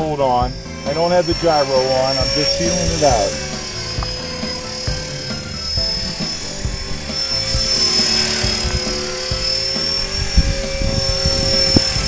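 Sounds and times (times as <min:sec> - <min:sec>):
low thumps: 0:00.0 - 0:12.0
rc helicopter motor whine: 0:00.0 - 0:12.0
rotor blades humming: 0:00.0 - 0:12.0.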